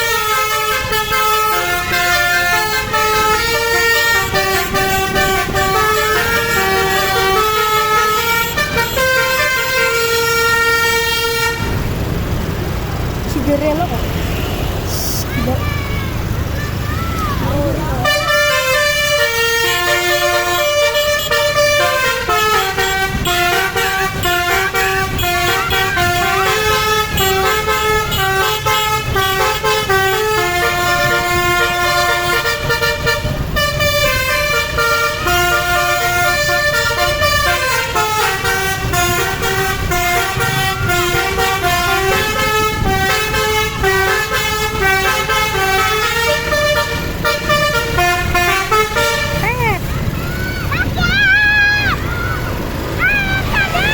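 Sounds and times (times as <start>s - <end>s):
multi-tone bus horn melody: 0.0s - 15.4s, 17.6s - 51.0s, 51.7s - 53.9s.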